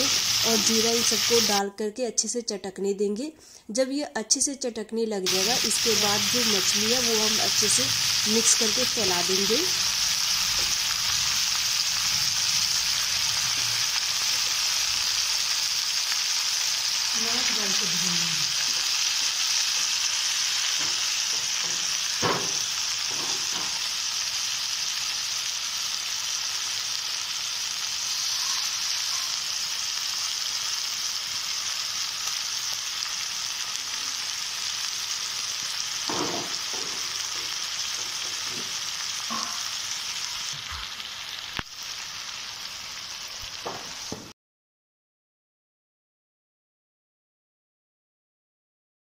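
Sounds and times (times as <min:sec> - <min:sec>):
fish frying in oil: 0:00.0 - 0:01.6, 0:05.3 - 0:44.3.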